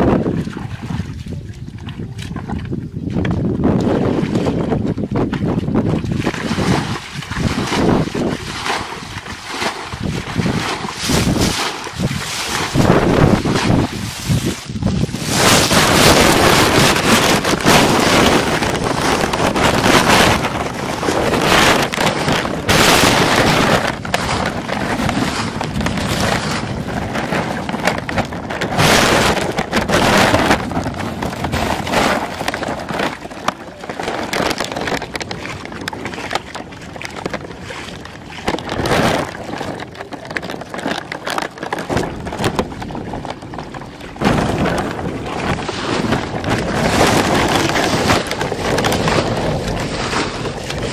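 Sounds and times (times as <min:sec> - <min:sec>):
muddy water splashing from bucket: 0:00.0 - 0:50.9
wind on microphone: 0:00.0 - 0:50.9.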